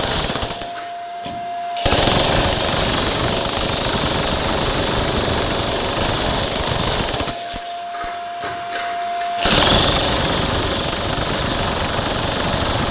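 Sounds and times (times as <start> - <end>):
power tool hammering: 0.0 - 12.9.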